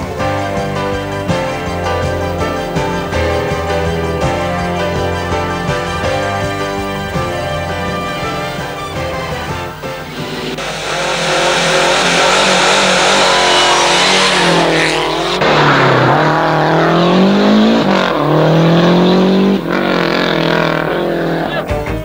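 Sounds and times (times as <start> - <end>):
rally car engine at full throttle: 0.0 - 22.0.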